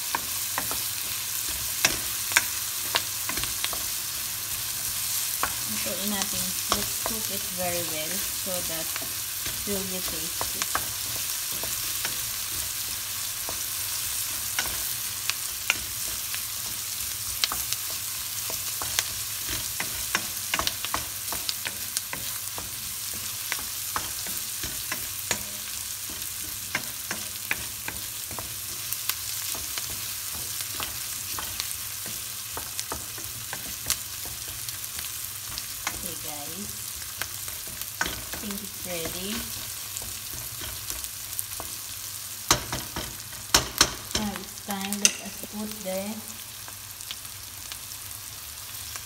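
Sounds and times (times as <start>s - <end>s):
wooden spoon stirring in pan: 0.0s - 46.9s
onions sizzling and crackling: 0.0s - 49.0s.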